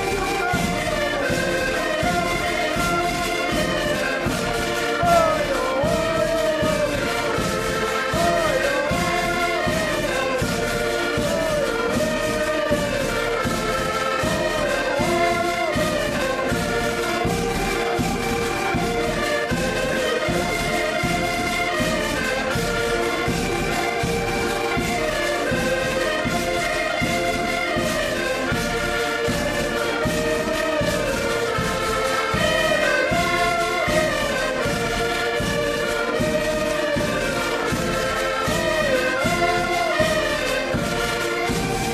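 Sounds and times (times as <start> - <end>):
accordions playing folk dance tune: 0.0 - 41.9.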